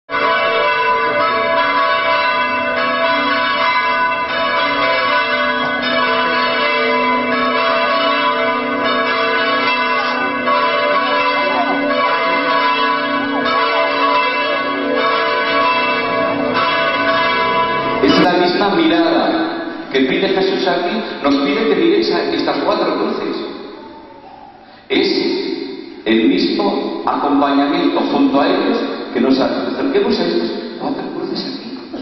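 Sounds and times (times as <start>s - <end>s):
church bells ringing: 0.1s - 24.9s, 27.6s - 31.2s.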